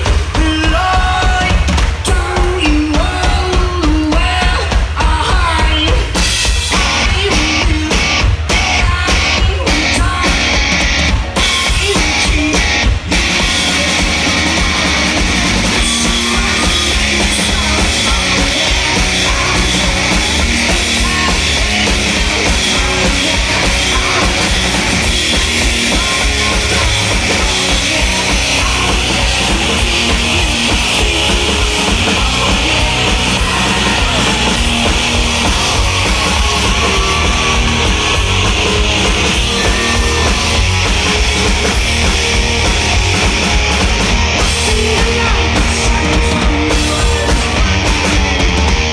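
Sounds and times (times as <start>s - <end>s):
distorted electric guitars: 0.0s - 48.9s
fast driving drum kit: 0.0s - 48.9s.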